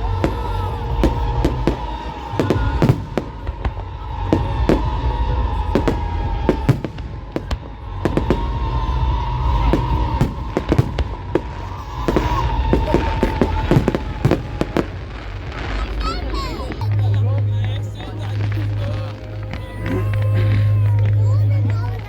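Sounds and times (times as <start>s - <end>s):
fireworks bangs and crackles: 0.0s - 22.0s
loud music with pulsing bass: 0.0s - 22.0s.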